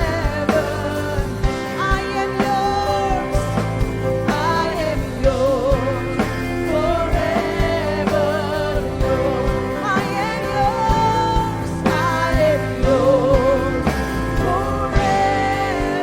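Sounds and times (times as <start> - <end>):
keyboard chords: 0.0 - 16.0
person singing: 0.0 - 16.0
steady drum beat: 0.0 - 16.0.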